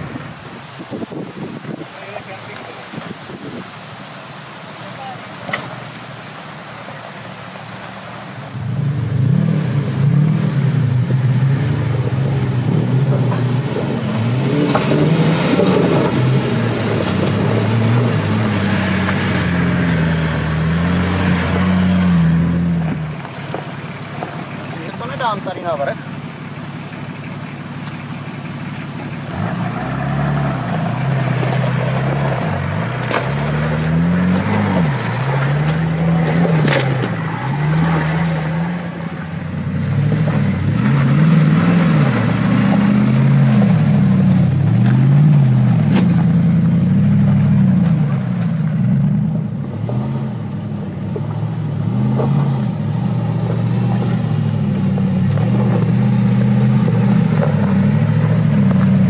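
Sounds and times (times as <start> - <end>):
engine revving: 8.6 - 59.0.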